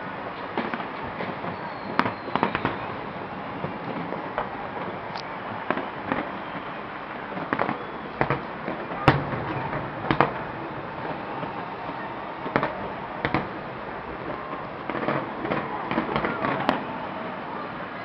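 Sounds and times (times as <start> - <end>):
distant firecrackers crackling: 0.0 - 18.0
firework bangs: 0.5 - 17.9.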